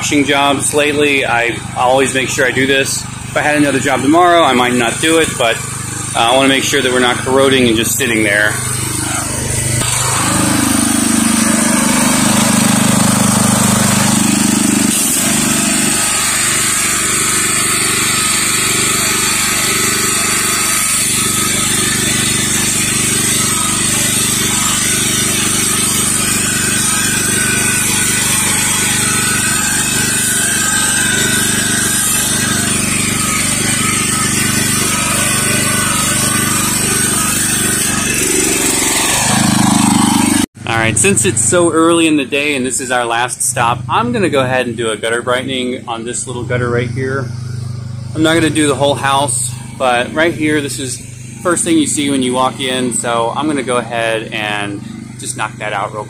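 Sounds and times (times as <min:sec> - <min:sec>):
pressure washer engine and pump running: 0:00.0 - 0:56.0.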